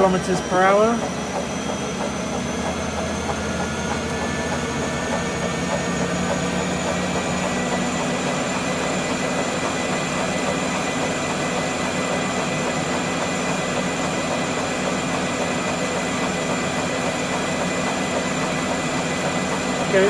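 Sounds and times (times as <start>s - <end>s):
treadmill motor hum and whine: 0.0s - 20.0s.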